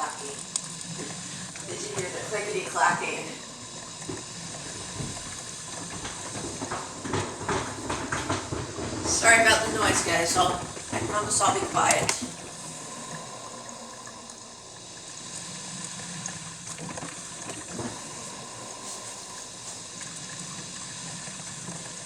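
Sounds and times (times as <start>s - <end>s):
coffee maker brewing water: 0.0s - 22.0s.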